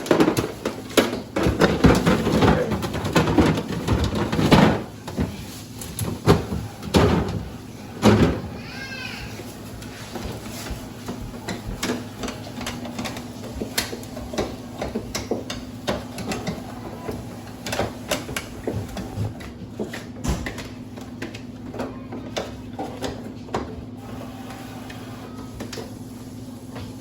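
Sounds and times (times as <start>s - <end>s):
groceries being handled: 0.0s - 27.0s.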